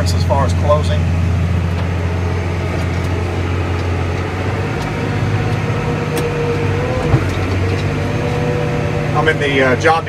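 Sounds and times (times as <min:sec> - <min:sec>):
tractor diesel engine droning: 0:00.0 - 0:10.0.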